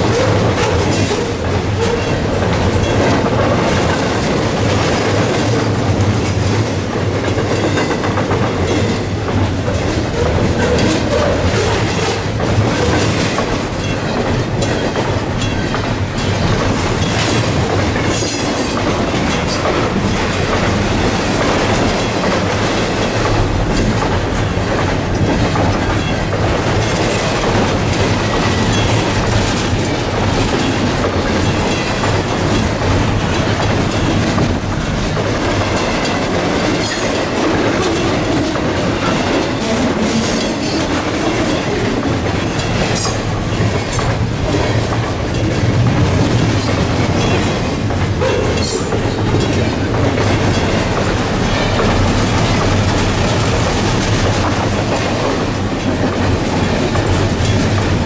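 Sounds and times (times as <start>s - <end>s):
train wheels rumbling on rails: 0.0s - 58.0s
wheels clicking over rail joints: 0.0s - 58.0s.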